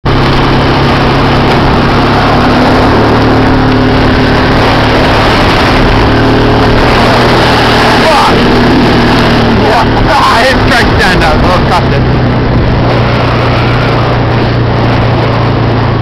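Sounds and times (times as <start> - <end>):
atv engine running: 0.0 - 16.0
constant rushing noise: 0.0 - 16.0.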